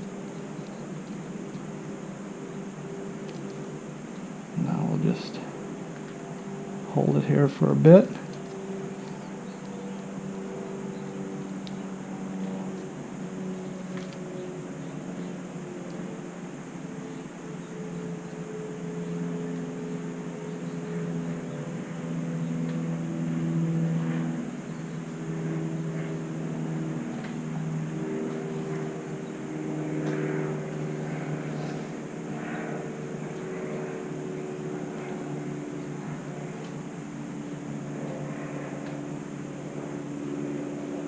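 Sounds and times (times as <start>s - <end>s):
engine-like drone: 0.0s - 41.0s.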